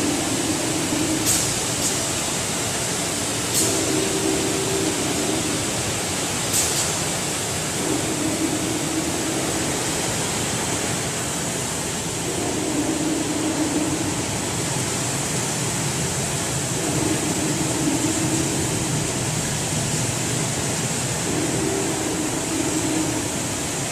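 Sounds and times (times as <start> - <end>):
low machine hum: 0.0 - 6.5, 7.1 - 23.9
water jets spraying: 0.0 - 23.9.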